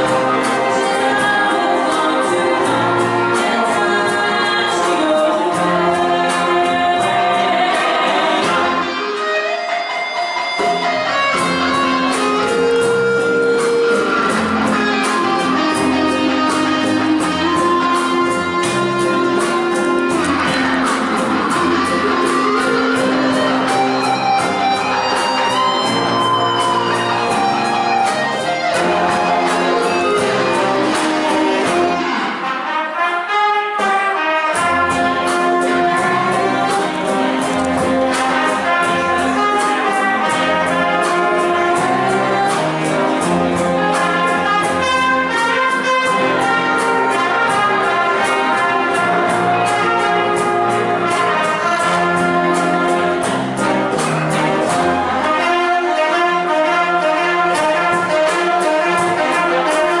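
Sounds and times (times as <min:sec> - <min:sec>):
big band playing: 0:00.0 - 1:00.0.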